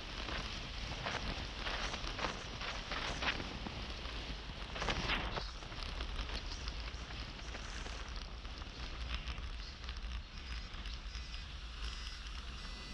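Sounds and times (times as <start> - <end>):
wind rumble on microphone: 0.0 - 12.9.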